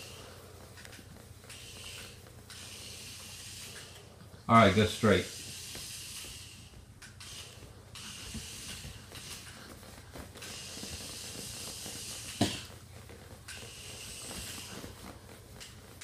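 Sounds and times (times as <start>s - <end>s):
toy car motor whirring: 0.0s - 4.1s, 4.8s - 9.7s, 10.3s - 12.8s, 13.4s - 16.0s.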